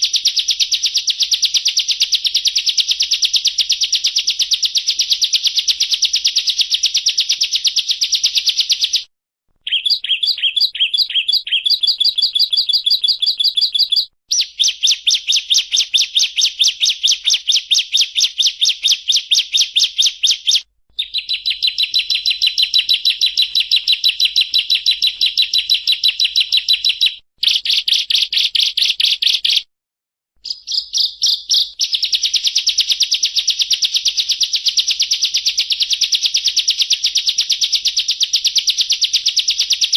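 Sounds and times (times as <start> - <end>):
bird fast trilling song: 0.0 - 29.7, 30.4 - 39.9.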